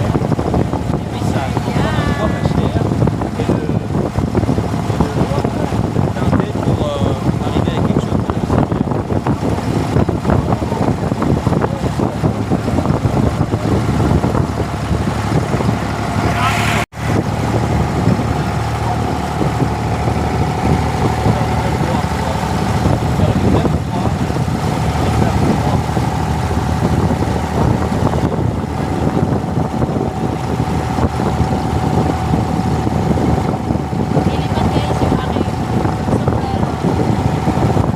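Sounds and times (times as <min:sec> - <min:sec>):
boat engine running: 0:00.0 - 0:37.9
wind buffeting microphone: 0:00.0 - 0:37.9.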